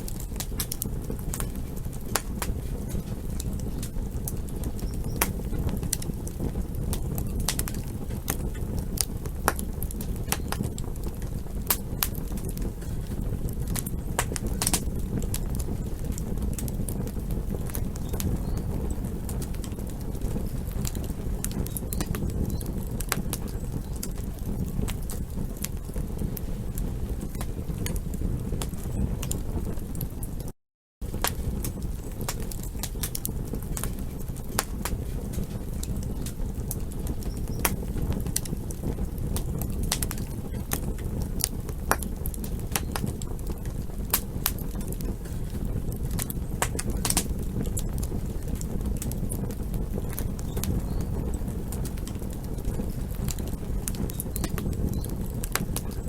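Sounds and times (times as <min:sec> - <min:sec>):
campfire flames rumbling: 0:00.0 - 0:56.0
fire crackling and popping: 0:00.0 - 0:56.0.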